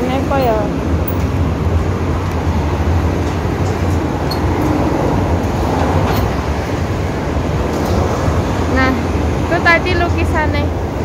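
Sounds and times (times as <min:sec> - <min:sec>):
heavy road traffic rumbling: 0:00.0 - 0:11.0.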